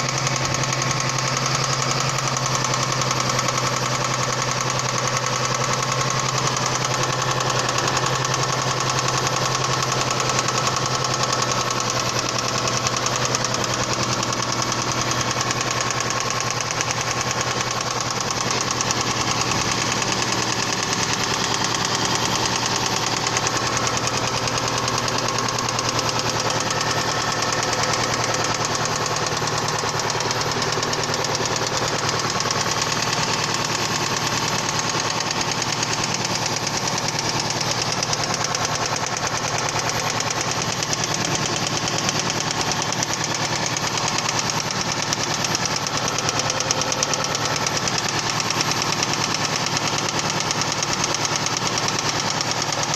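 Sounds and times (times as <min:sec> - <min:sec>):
engine running with metallic knock: 0:00.0 - 0:52.9.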